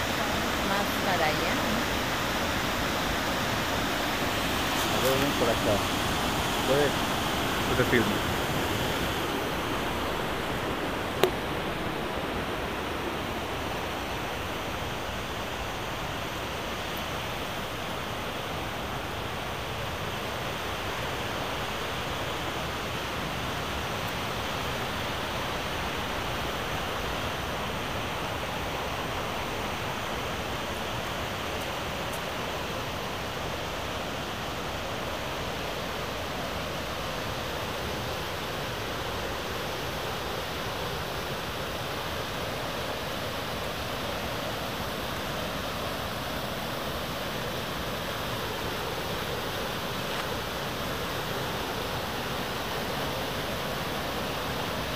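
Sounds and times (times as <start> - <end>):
river rapids roaring over boulders: 0.0 - 54.9.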